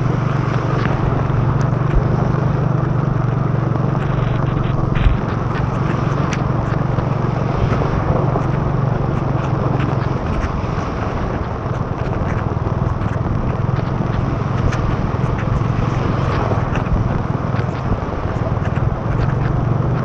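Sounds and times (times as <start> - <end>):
heavy rain and wet road noise: 0.0 - 20.0
motorbike engine running: 0.0 - 20.0
raindrops hitting camera: 0.0 - 20.0.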